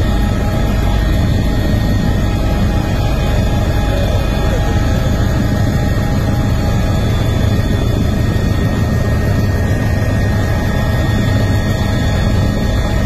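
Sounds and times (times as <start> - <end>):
aircraft engine rumble: 0.0 - 13.0.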